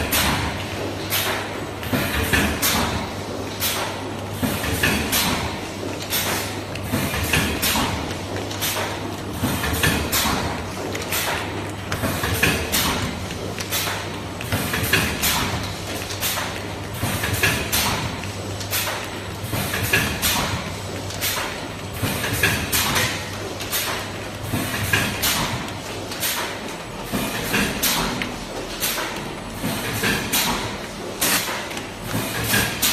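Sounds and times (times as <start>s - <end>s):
packing machine striking rhythmically: 0.0s - 32.9s.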